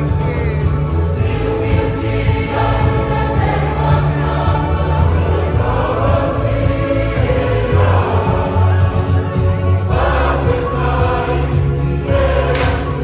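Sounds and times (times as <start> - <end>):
choir singing a hymn: 0.0 - 13.0
low accompanying notes: 0.0 - 13.0.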